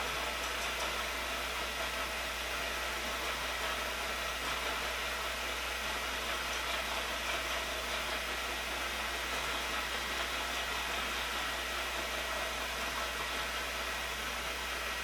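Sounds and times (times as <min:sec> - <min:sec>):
milling machine running: 0:00.0 - 0:15.0.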